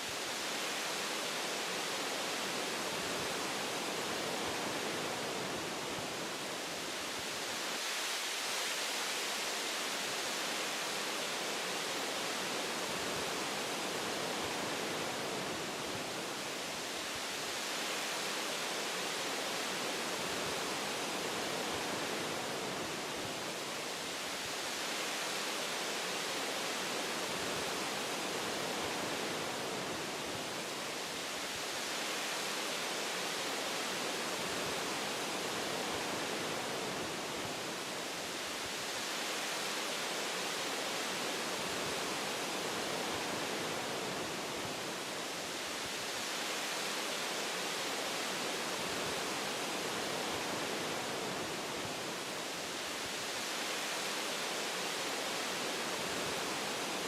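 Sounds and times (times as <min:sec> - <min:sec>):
wind rushing through trees: 0:00.0 - 0:57.0.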